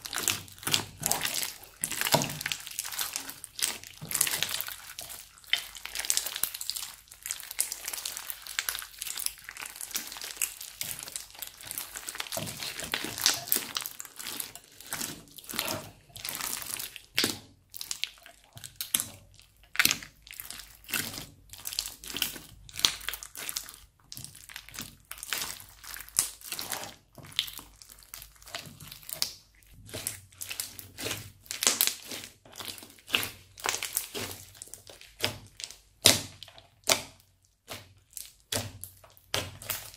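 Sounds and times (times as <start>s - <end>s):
crunchy slime crackling: 0.0s - 39.9s
slime squishes: 0.0s - 39.9s.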